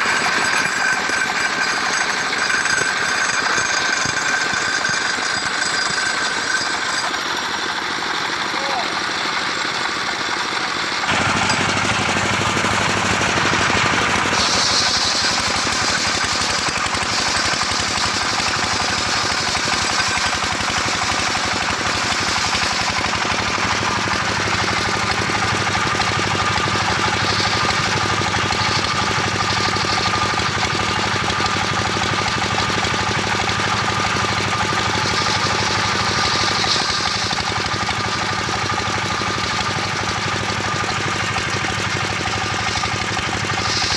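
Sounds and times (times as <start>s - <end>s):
saw hissing through log: 0.0s - 43.9s
sawmill engine chugging: 0.0s - 43.9s.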